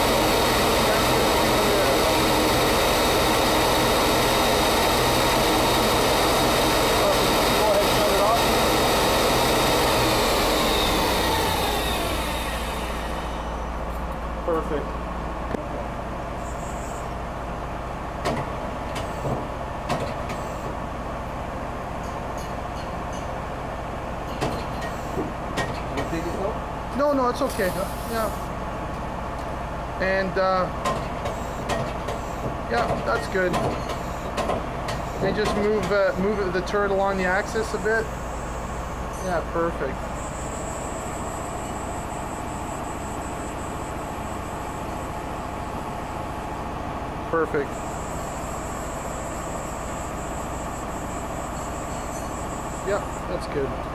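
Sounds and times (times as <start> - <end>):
machine mechanical hum: 0.0 - 53.9.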